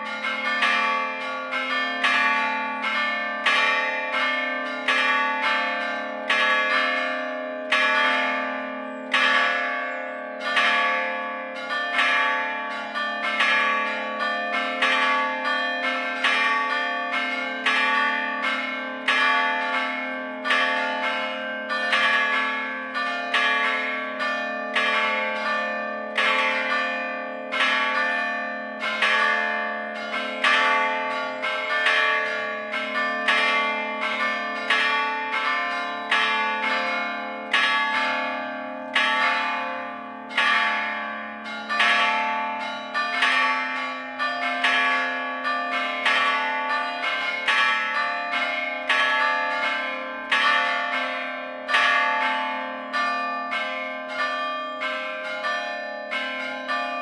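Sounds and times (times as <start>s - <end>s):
church bells struck: 0.0s - 57.0s.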